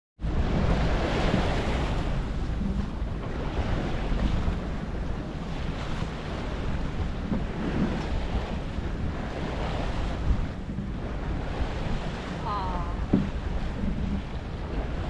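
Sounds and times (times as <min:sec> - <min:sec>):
sea water rushing along hull: 0:00.2 - 0:15.0
wind buffeting microphone: 0:00.2 - 0:15.0.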